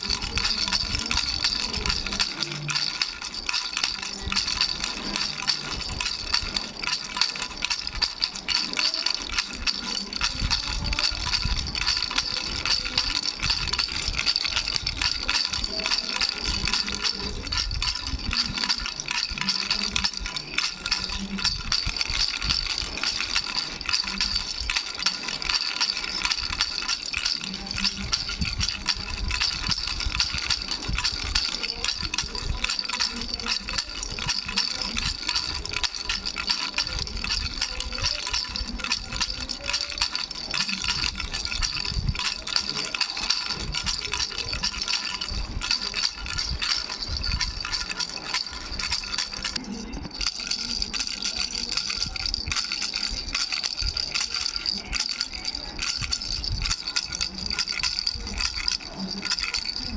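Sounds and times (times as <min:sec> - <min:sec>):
baby rattle bells jingling: 0:00.0 - 0:59.9.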